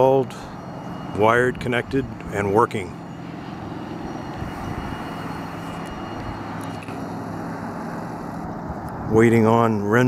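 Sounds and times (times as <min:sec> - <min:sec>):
machine droning hum: 0:00.0 - 0:10.0.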